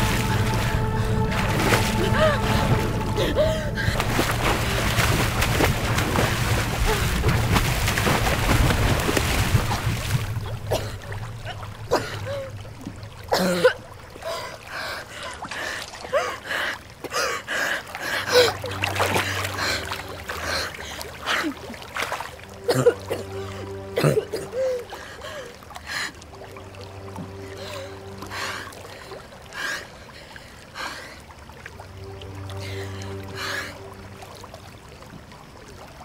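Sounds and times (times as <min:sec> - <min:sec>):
low music drone: 0:00.0 - 0:15.2, 0:17.5 - 0:35.7
heavy splashing in pool: 0:00.0 - 0:29.8
water sloshing and lapping: 0:00.0 - 0:36.0.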